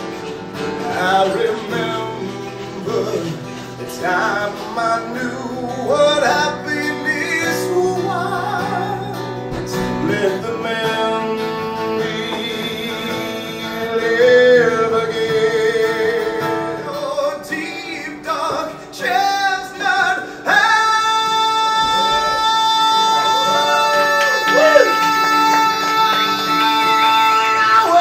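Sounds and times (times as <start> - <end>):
acoustic guitar: 0.0 - 28.0
man singing: 0.6 - 28.0.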